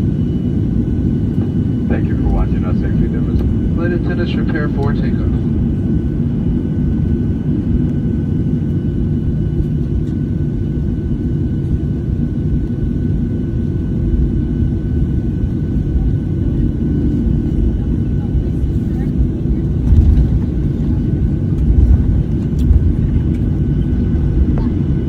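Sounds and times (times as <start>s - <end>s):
airliner cabin rumble: 0.0s - 25.0s
faint high engine whine: 0.0s - 25.0s.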